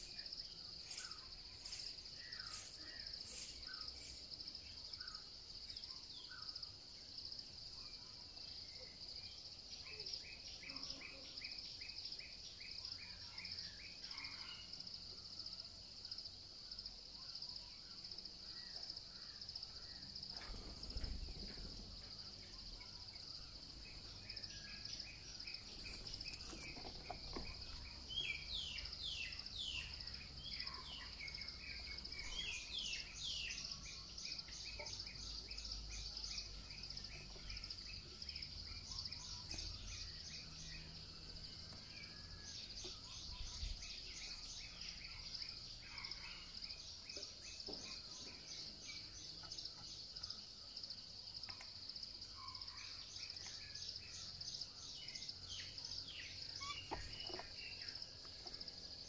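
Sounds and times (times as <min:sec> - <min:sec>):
rapid bird chirps: 0:00.0 - 0:06.8, 0:16.1 - 0:59.0
insects droning: 0:00.0 - 0:59.0.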